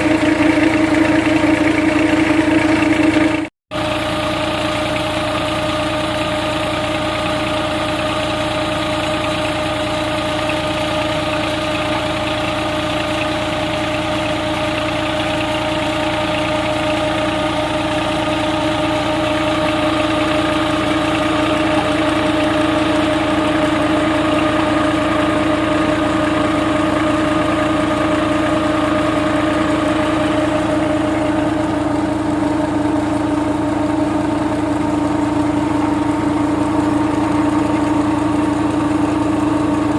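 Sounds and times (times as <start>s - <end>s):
pump hum: 0.0s - 39.9s
tractor engine running: 0.0s - 39.9s.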